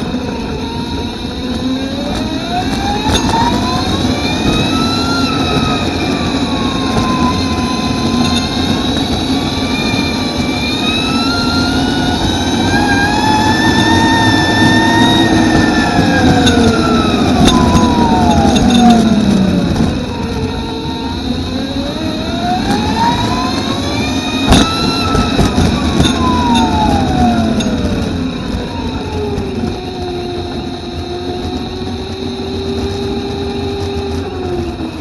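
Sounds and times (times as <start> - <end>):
electric motorbike motor whining: 0.0 - 35.0
rush of noise: 0.0 - 35.0.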